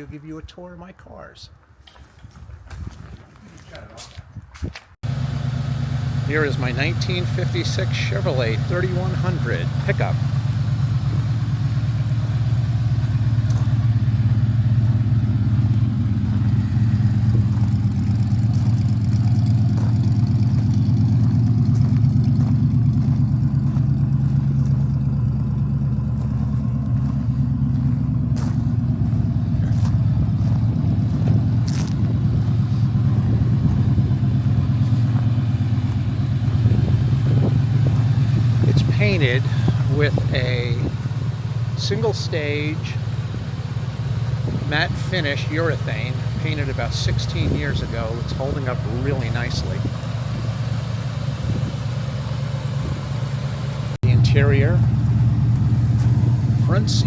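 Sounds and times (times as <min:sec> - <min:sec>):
truck engine idling: 0:05.0 - 0:57.0.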